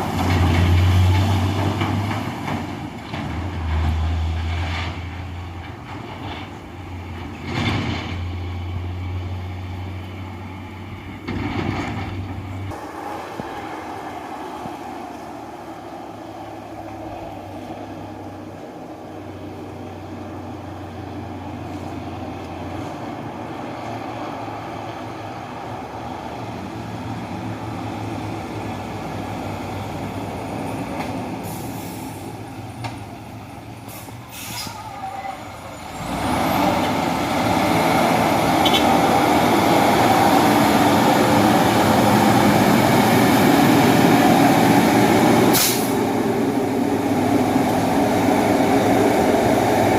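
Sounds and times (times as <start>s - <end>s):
dump truck diesel engine labouring: 0.0s - 49.9s.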